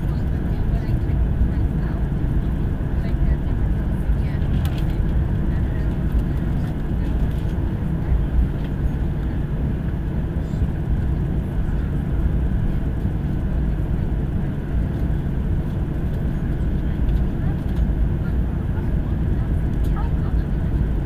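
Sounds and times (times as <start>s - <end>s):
idling jet engines rumble: 0.0s - 21.0s.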